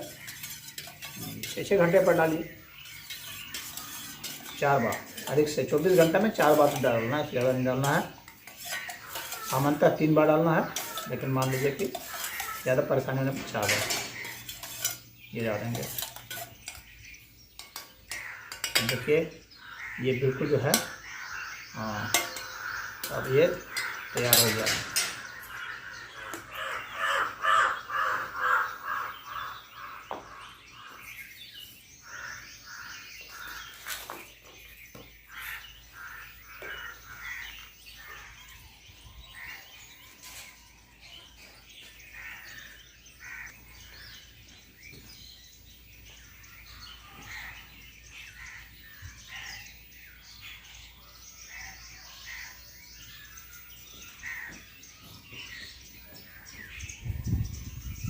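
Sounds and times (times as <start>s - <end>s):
birds cawing: 0.0s - 16.9s, 17.6s - 57.0s
birds chirping: 0.0s - 58.0s.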